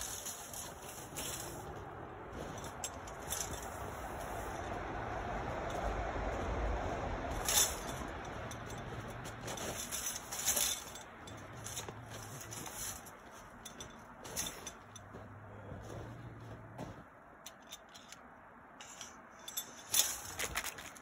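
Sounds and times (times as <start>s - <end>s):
wire cage trap scraping: 0.0s - 15.1s, 17.5s - 21.0s
metallic rattles: 0.0s - 21.0s.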